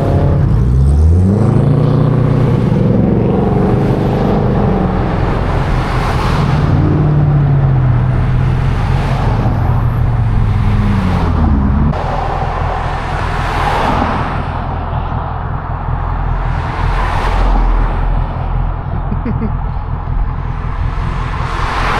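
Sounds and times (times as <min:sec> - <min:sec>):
car engine running: 0:00.0 - 0:21.9
road noise: 0:00.0 - 0:21.9.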